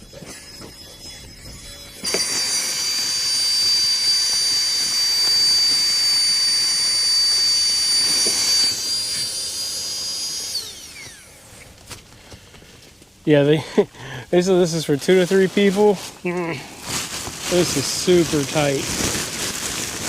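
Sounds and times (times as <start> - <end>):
electric air pump whining: 0.0 - 12.5, 15.0 - 20.0.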